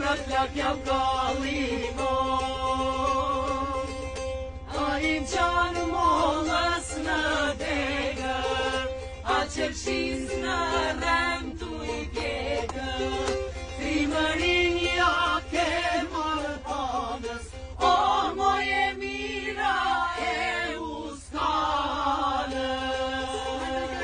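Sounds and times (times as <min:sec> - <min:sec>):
coach low rumble: 0:00.0 - 0:24.0
men and women singing: 0:00.0 - 0:24.0
strummed mandolin: 0:00.0 - 0:24.0.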